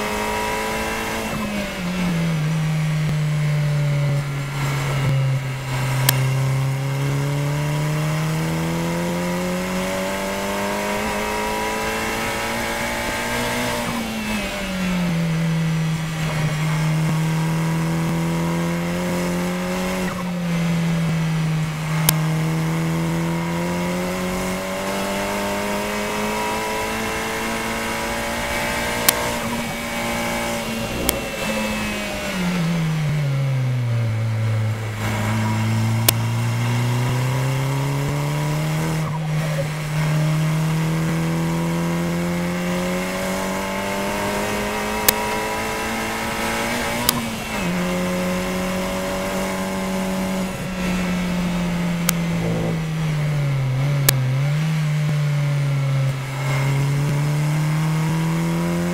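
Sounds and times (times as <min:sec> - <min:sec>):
race car engine: 0:00.0 - 0:58.9.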